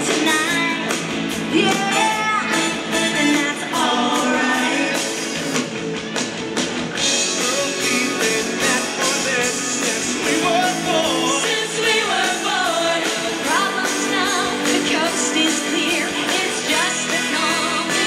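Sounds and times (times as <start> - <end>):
pop-rock song with singing: 0.0 - 18.0.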